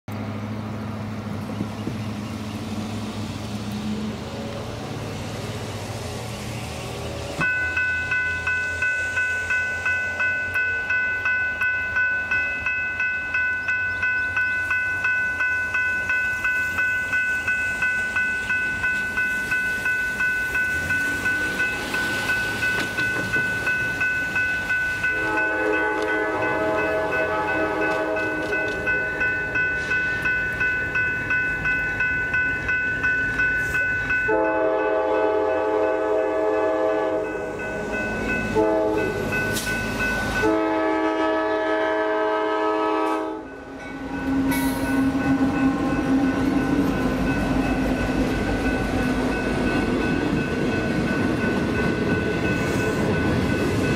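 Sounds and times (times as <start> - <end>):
railroad crossing bell dinging: 7.1 - 53.9.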